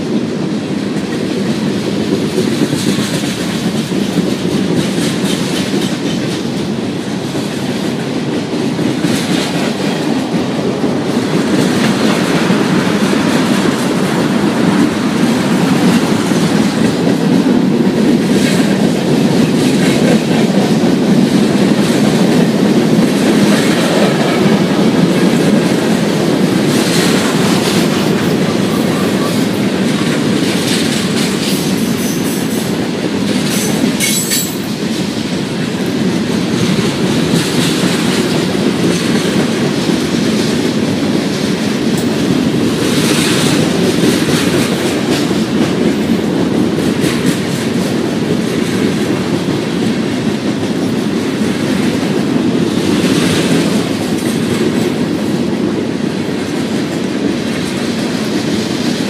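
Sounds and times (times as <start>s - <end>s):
freight train wheels rumbling: 0.0s - 59.0s
wheels clicking on rails: 0.0s - 59.0s.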